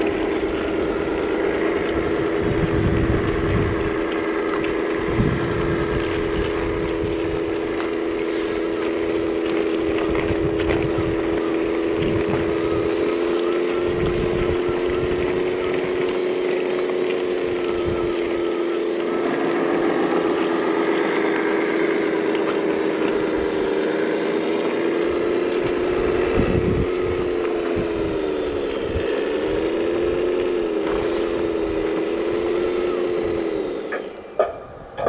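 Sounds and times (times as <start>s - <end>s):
electric motor whining: 0.0s - 35.0s.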